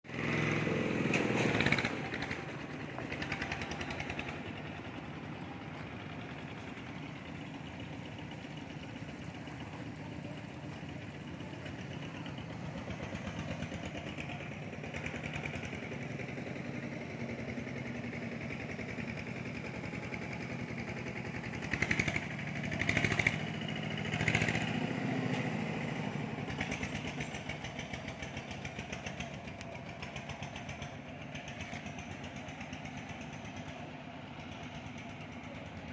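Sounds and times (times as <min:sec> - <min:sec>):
engine running steadily: 0:00.0 - 0:35.9.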